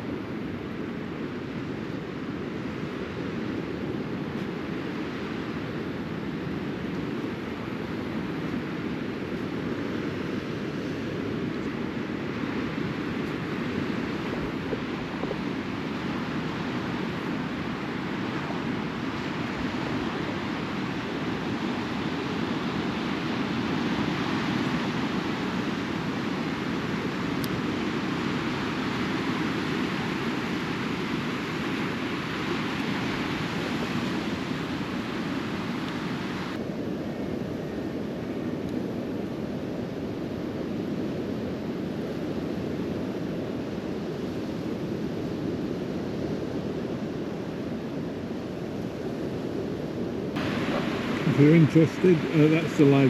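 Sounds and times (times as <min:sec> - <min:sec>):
sea surf washing up shingle beach: 0:00.0 - 0:53.0
wind on microphone: 0:00.0 - 0:53.0.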